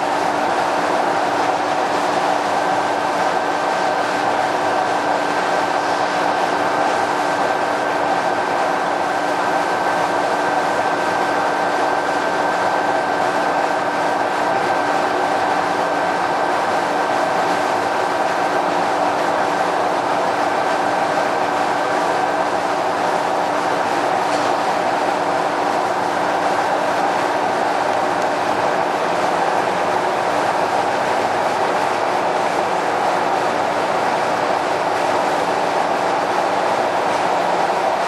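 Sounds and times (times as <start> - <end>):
high steady whine: 0.0 - 38.0.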